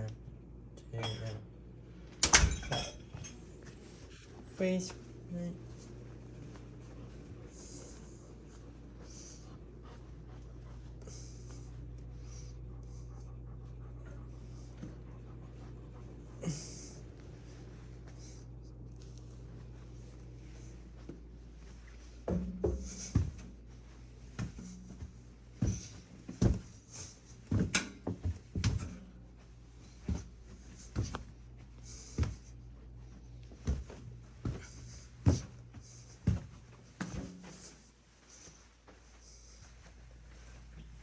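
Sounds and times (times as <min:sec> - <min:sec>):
steady low hum: 0:00.0 - 0:41.0
footsteps going down stairs: 0:02.1 - 0:41.0.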